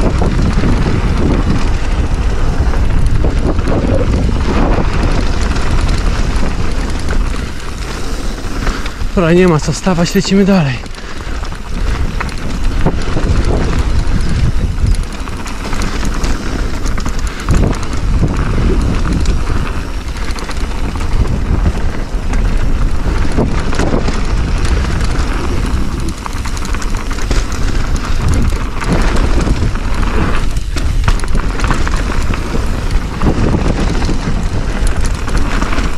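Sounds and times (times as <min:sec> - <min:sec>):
bike rattling and knocking: 0:00.0 - 0:35.9
bike tyres rolling over dirt: 0:00.0 - 0:35.9
wind rumble on microphone: 0:00.0 - 0:35.9.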